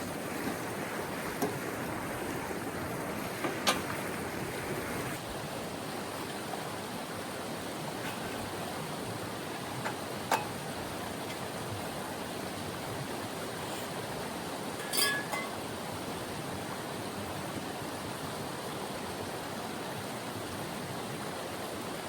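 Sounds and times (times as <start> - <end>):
mountain river rushing: 0.0 - 22.0.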